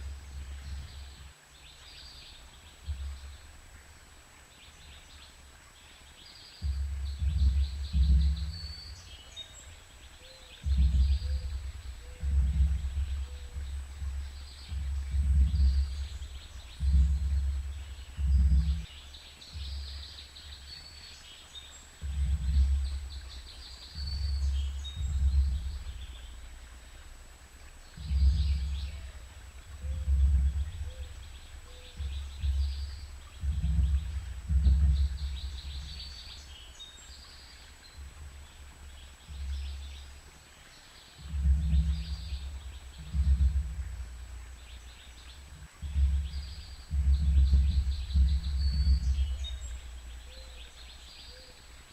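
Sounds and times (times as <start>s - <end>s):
wind buffeting the microphone: 0.0s - 1.3s, 2.1s - 3.8s, 6.6s - 51.9s
small birds chirping and trilling: 0.0s - 51.9s.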